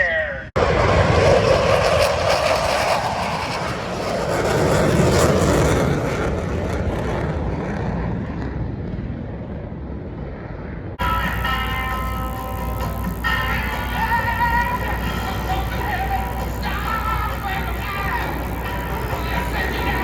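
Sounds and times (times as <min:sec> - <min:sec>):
jet flying by: 0:00.1 - 0:20.0.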